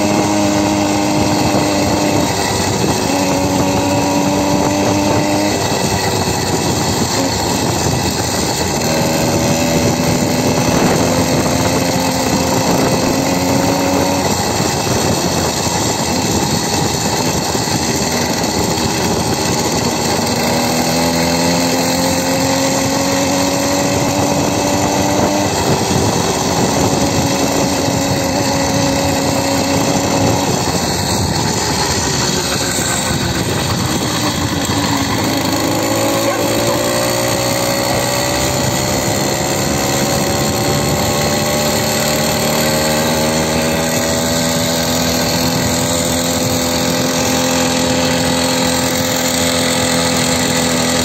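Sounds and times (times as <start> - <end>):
wind noise rushing: 0.0 - 49.9
motorcycle engine revving: 0.0 - 51.0.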